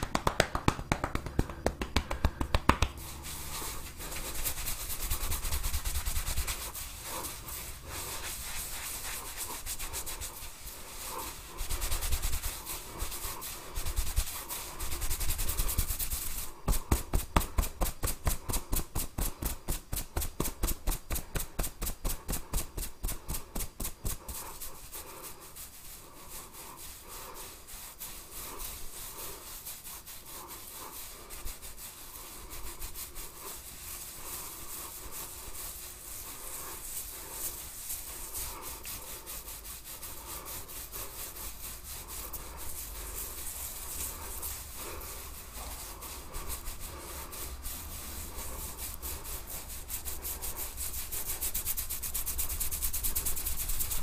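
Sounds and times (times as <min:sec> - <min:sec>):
hands rubbing hair and scalp: 0:00.0 - 0:54.0.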